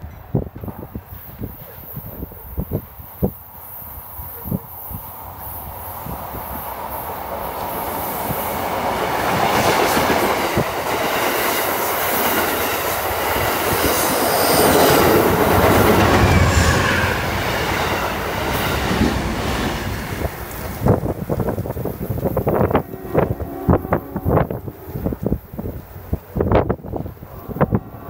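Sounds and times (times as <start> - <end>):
passenger train rolling on track: 0.0 - 28.0.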